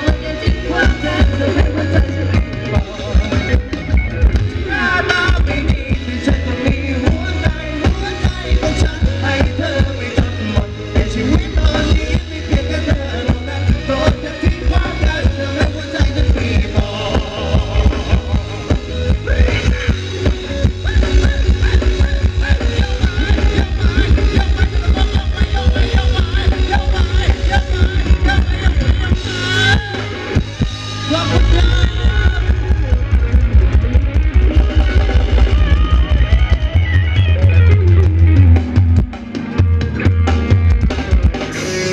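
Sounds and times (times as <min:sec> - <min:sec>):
band melody line: 0:00.0 - 0:41.9
driving drum beat: 0:00.0 - 0:41.9.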